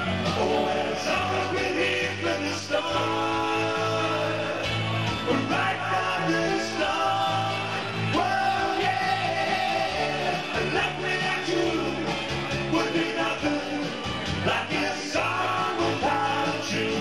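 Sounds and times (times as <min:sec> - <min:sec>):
bass line: 0:00.0 - 0:17.0
live band music: 0:00.0 - 0:17.0.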